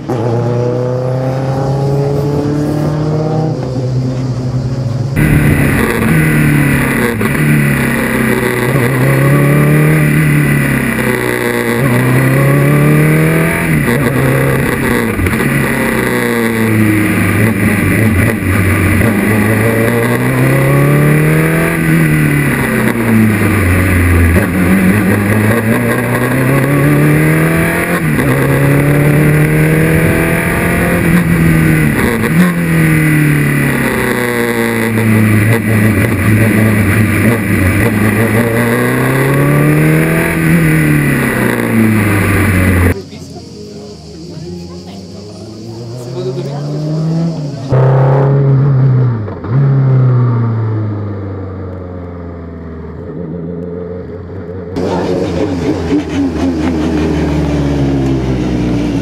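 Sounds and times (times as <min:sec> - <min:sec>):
racing car engine revving: 0:00.0 - 0:43.4, 0:44.0 - 0:59.0.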